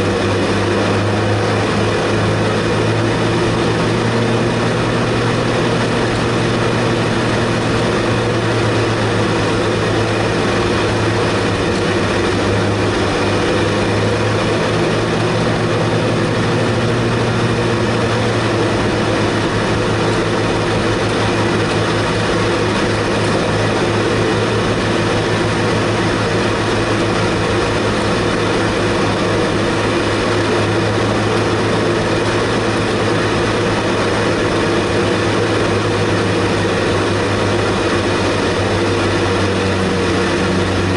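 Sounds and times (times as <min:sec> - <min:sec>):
race car engine droning: 0:00.0 - 0:40.9.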